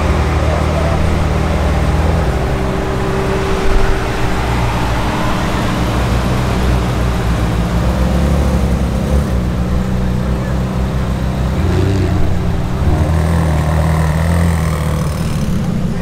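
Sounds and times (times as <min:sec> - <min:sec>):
car engine rumbling at low revs: 0:00.0 - 0:16.0.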